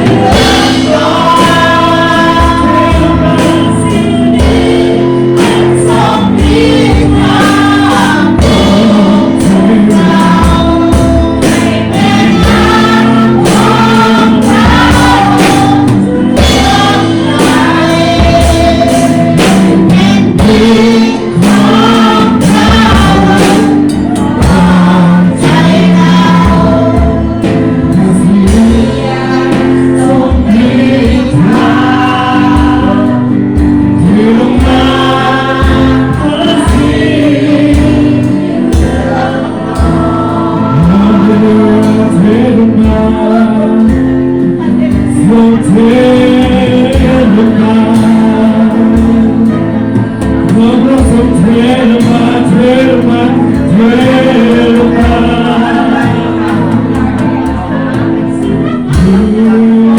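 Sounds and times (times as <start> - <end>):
group singing worship song: 0.0 - 59.9
instrumental accompaniment chords: 0.0 - 59.9
steady drum beat: 0.0 - 59.9.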